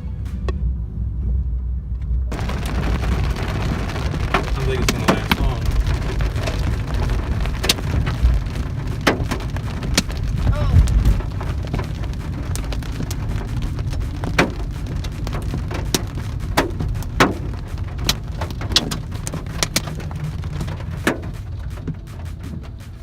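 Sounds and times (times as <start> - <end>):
low rumble: 0.0 - 23.0
rain pattering: 1.9 - 23.0
hailstones striking hard surfaces: 2.3 - 23.0.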